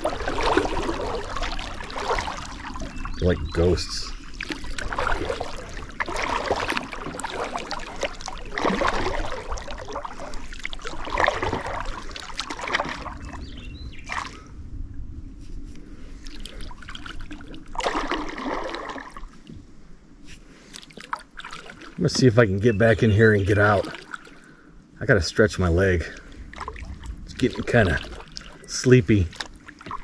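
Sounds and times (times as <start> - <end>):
water trickling off paddle: 0.0 - 14.4, 16.2 - 19.6, 20.6 - 24.6, 26.1 - 30.0
paddle strokes splashing: 0.0 - 14.5, 16.0 - 24.6, 26.2 - 30.0.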